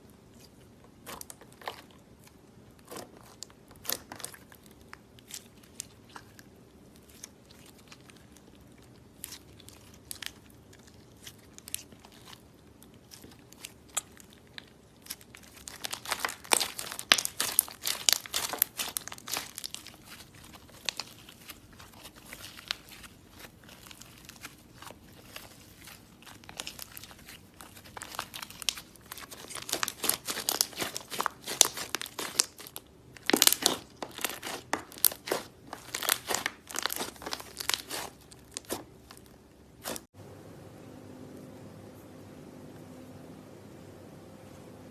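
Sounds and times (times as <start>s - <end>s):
slime crackling and popping: 2.8s - 40.1s.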